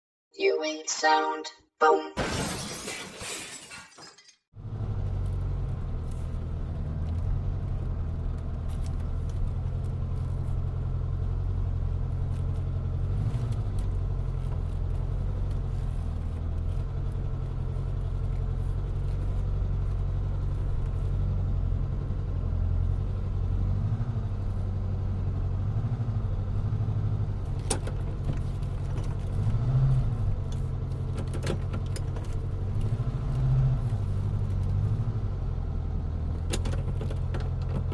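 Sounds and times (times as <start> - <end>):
car engine running at low revs: 4.6 - 37.9.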